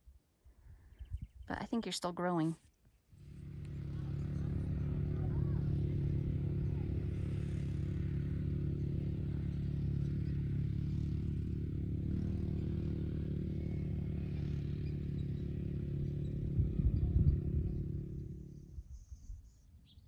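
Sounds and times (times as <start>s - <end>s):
low motor hum: 3.0s - 20.0s.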